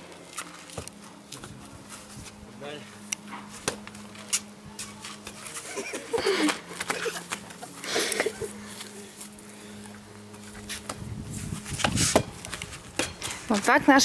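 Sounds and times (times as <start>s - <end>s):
rustling of grass and bushes: 0.0s - 14.0s.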